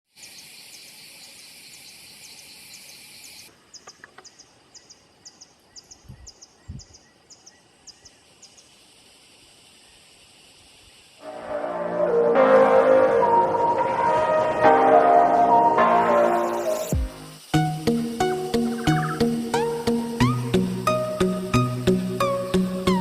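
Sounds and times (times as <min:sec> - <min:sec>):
insect drone: 0:00.1 - 0:23.0.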